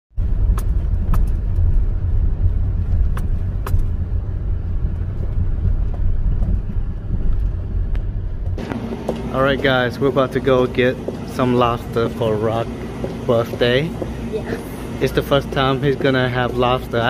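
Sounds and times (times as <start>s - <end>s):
low rumble of car driving: 0.2s - 17.0s.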